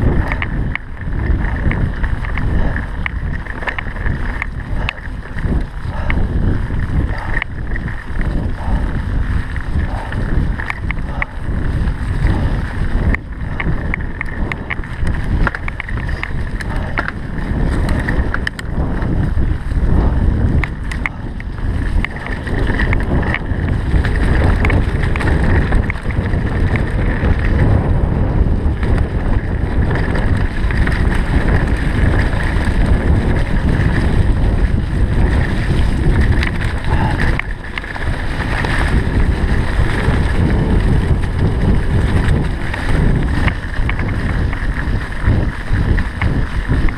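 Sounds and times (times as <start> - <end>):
bike knocks and rattles: 0.0 - 46.9
tyres rumbling on dirt trail: 0.0 - 46.9
wind buffeting microphone: 0.0 - 46.9.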